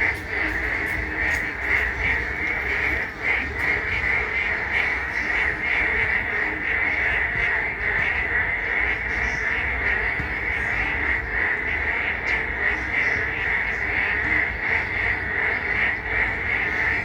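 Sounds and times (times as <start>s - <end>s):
frogs calling in chorus: 0.0s - 17.0s.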